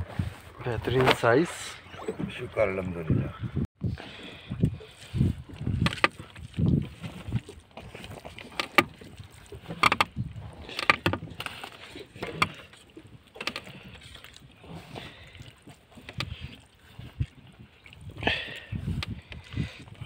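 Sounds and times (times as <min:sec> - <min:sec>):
water lapping at hull: 0:00.0 - 0:20.0.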